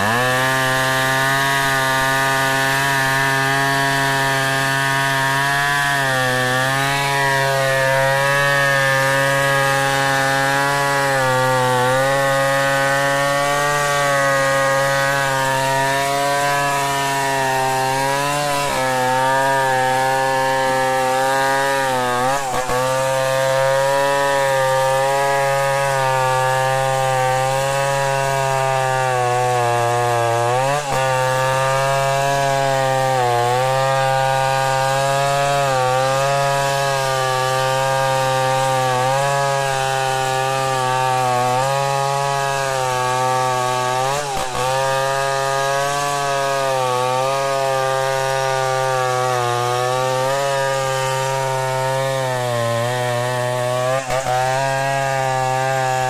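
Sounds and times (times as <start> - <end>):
chainsaw cutting a log: 0.0 - 56.0.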